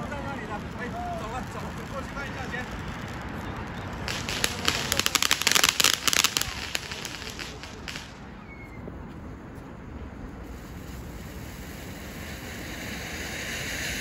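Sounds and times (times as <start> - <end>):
firework crackling: 0.0 - 8.4, 10.2 - 14.0.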